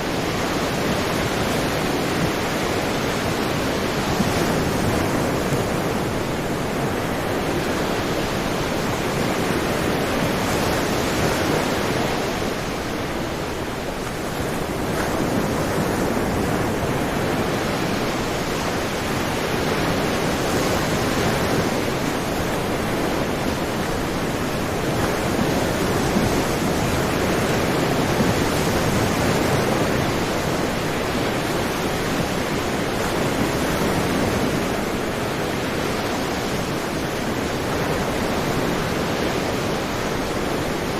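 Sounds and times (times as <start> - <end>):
sea waves washing onto shore: 0.0 - 40.9.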